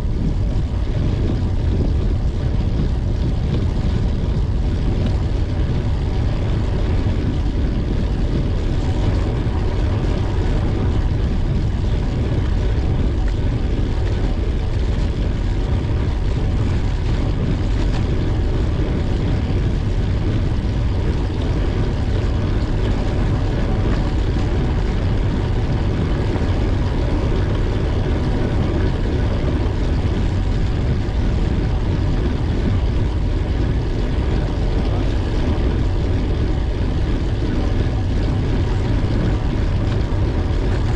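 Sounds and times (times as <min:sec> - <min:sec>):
faint steady whine: 0:00.0 - 0:40.9
wind rumbling on microphone: 0:00.0 - 0:40.9.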